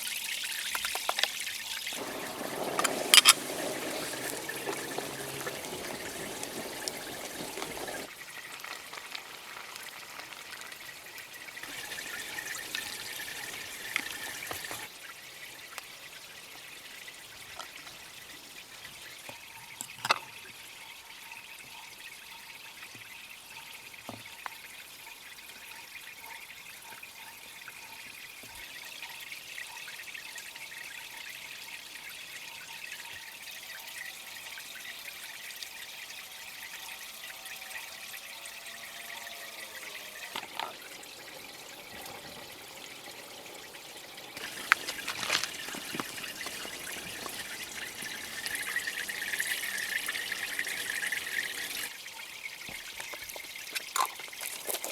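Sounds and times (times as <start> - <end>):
water trickling and pouring: 0.0 - 54.9.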